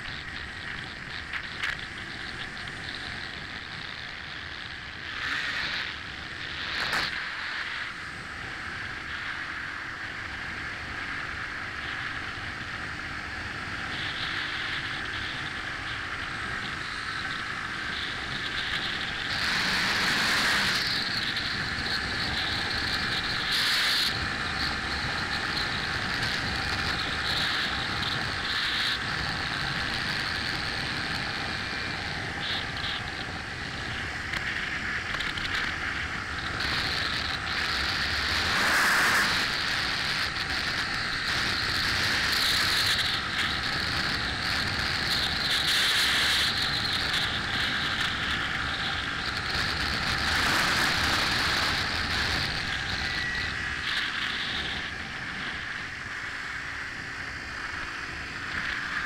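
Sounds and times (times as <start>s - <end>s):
motorcycle engine and tyre noise: 0.0s - 59.0s
wind rushing over microphone: 0.0s - 59.0s.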